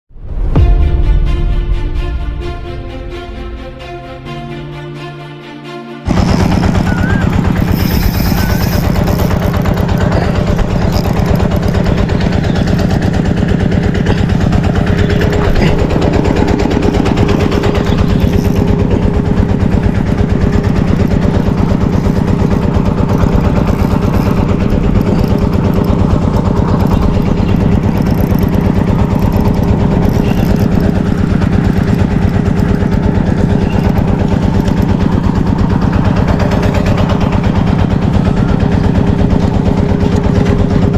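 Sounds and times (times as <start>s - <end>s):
small engine running: 0.3s - 40.9s.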